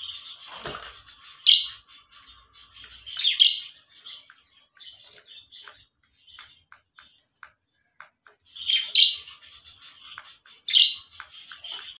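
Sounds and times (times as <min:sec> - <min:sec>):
budgerigars chirping: 0:00.0 - 0:07.3, 0:08.3 - 0:12.0.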